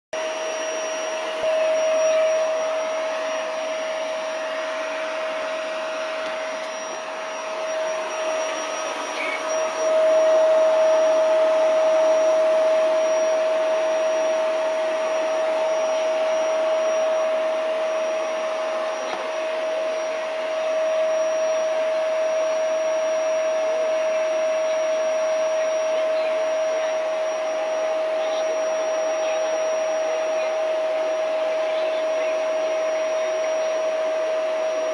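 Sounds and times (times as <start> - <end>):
electric motor whirring: 0.2 - 34.9.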